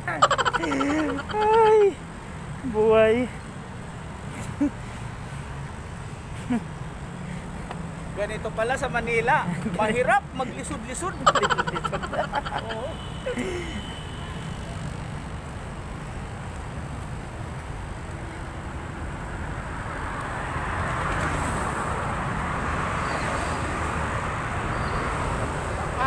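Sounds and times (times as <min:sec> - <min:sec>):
road traffic rumbling: 0:00.0 - 0:26.0.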